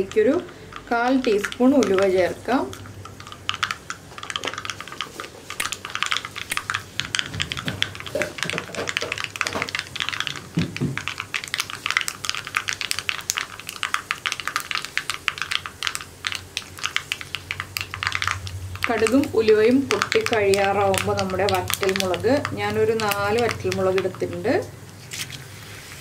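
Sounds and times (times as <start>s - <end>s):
seeds popping in hot oil: 0.0s - 25.4s.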